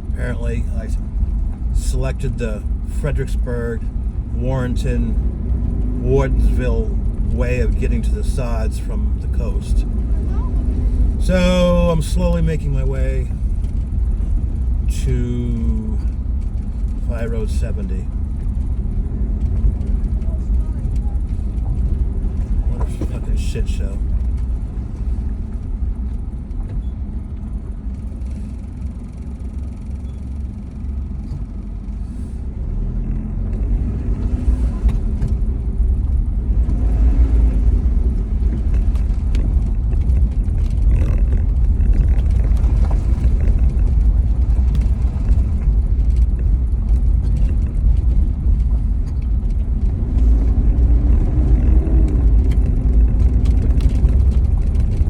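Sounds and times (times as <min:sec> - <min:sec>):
car interior road and engine rumble: 0:00.0 - 0:55.0.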